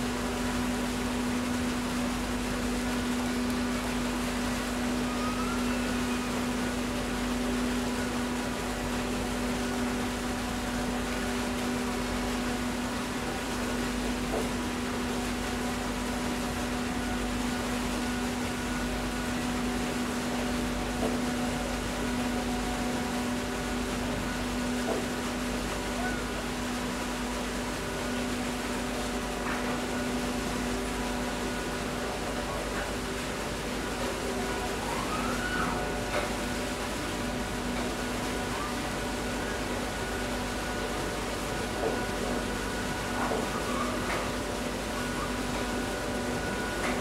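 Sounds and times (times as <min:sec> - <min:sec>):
ship engine hum: 0:00.0 - 0:47.0.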